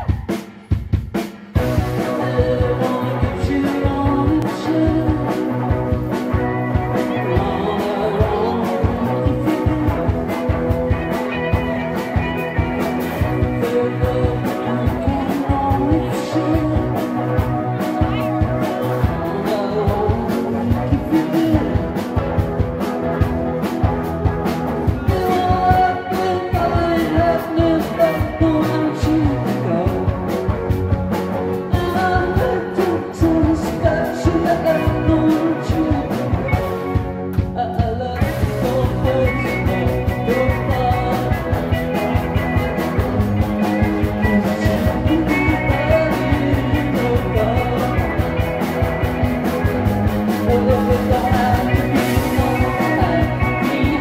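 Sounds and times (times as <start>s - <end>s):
rock band playing: 0.0s - 54.0s
steady drum beat: 0.0s - 54.0s
lead vocal singing: 1.6s - 22.2s, 24.9s - 30.8s, 31.5s - 54.0s.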